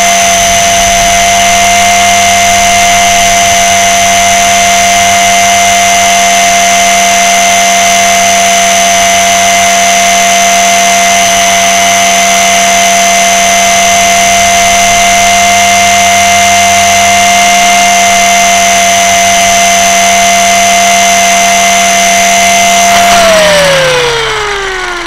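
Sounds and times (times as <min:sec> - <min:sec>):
rc helicopter rotor whine: 0:00.0 - 0:25.0.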